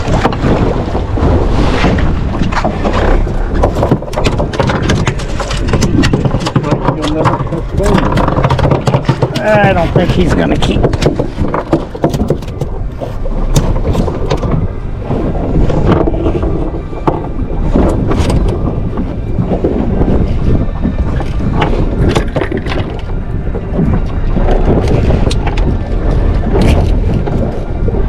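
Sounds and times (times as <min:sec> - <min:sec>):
wind rumble on microphone: 0:00.0 - 0:28.0.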